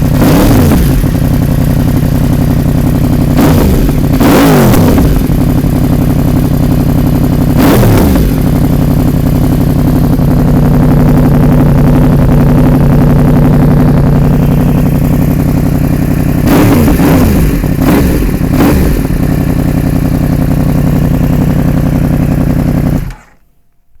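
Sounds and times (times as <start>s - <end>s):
loud motorcycle engine revving: 0.0s - 23.4s.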